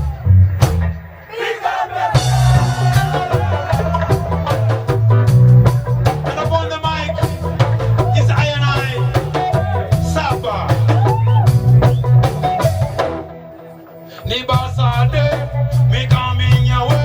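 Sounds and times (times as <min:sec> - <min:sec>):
reggae band playing: 0:00.0 - 0:17.0.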